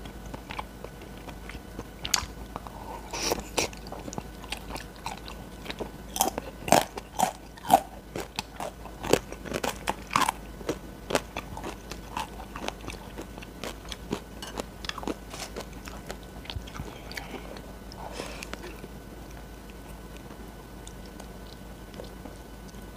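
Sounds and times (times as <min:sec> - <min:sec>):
biting and chewing mouth sounds: 0:00.0 - 0:22.9.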